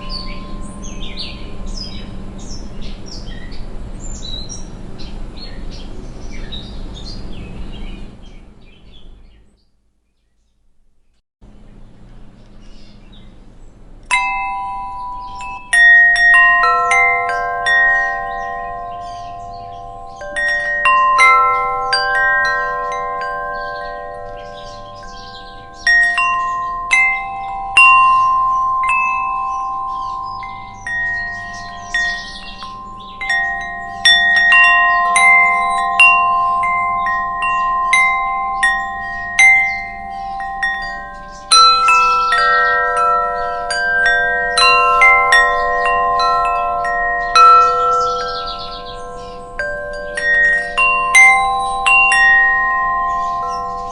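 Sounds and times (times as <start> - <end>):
wind chimes ringing: 0.0 - 8.4, 12.7 - 53.9.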